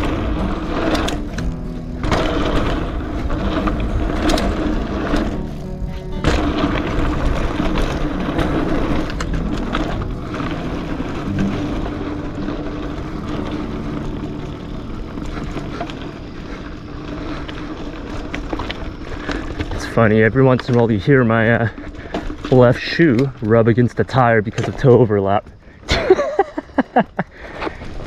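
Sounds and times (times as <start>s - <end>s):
bike knocks and rattles: 0.0s - 28.0s
bike tyres rolling over dirt: 0.0s - 28.0s.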